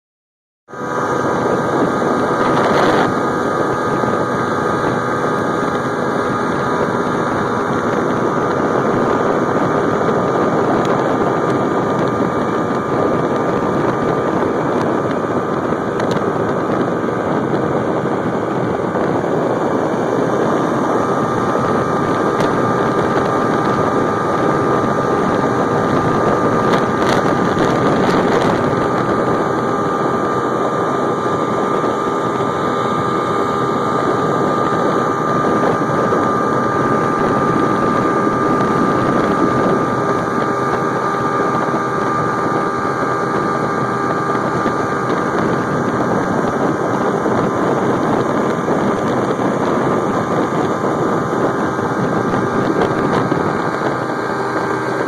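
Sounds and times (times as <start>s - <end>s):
motorboat engine running: 0.7s - 55.0s
rush of boat wake: 0.7s - 55.0s
wind on microphone: 0.7s - 55.0s.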